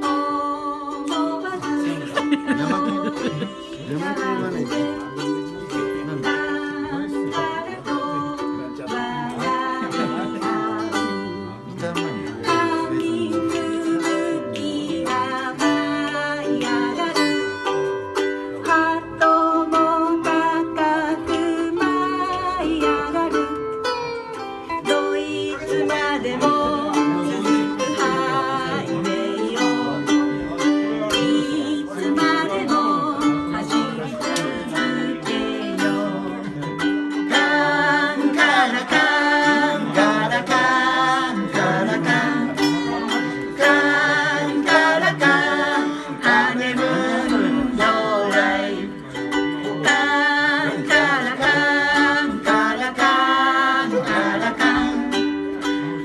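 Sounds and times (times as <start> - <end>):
ukulele strumming: 0.0 - 56.0
woman singing: 0.0 - 56.0
man singing: 1.6 - 17.2, 24.8 - 56.0.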